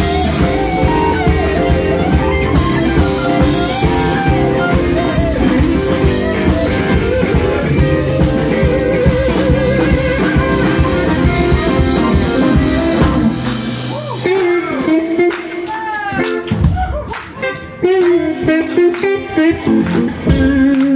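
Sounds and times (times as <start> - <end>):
live blues band: 0.0 - 20.9.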